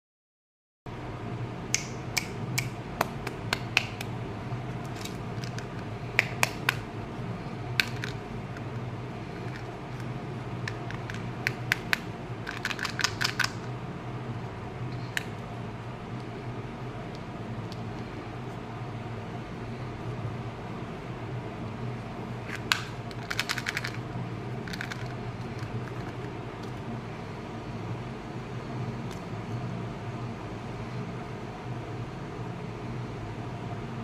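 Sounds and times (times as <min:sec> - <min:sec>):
steady low hum: 0:00.9 - 0:34.0.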